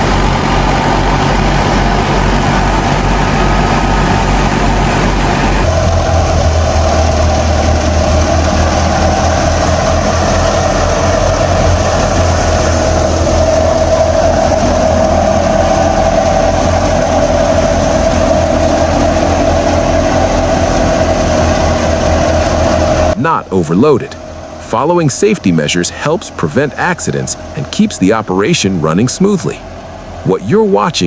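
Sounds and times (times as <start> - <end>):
threshing machine hum: 0.0 - 31.0
tractor engine droning: 0.0 - 31.0.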